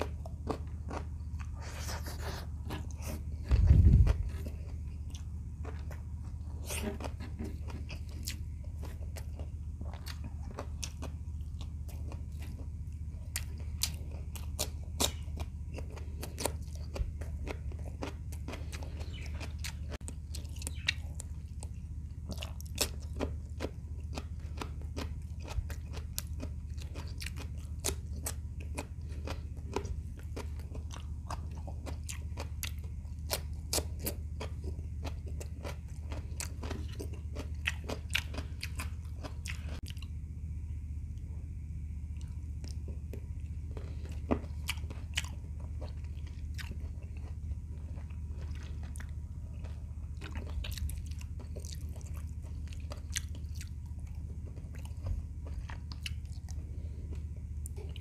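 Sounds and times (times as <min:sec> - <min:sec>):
person chewing and crunching food: 0:00.0 - 0:58.0
steady low hum: 0:00.0 - 0:58.0.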